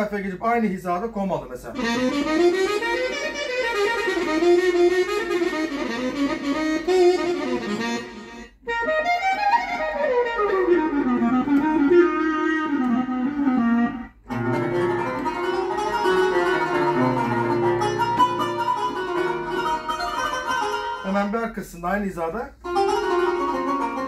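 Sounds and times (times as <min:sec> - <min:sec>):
keyboard string melody: 0:01.7 - 0:24.0
plucked-string keyboard tone: 0:01.8 - 0:21.0, 0:22.6 - 0:24.0.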